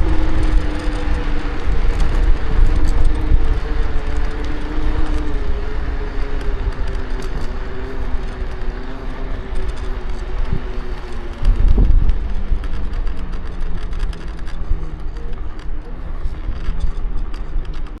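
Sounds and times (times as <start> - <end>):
electric motor hum: 0.0 - 17.9
low wind rumble: 0.0 - 18.0
scooter frame creaking and crackling: 0.0 - 18.0.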